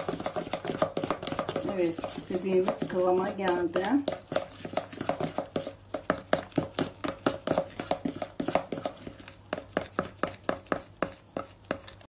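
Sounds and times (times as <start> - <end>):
whisk clicking against bowl: 0.0 - 12.0.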